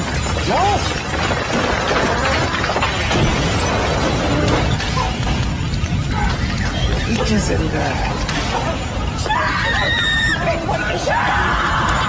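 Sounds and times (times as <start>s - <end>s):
debris shattering: 0.0s - 12.0s
fire crackling: 0.0s - 12.0s.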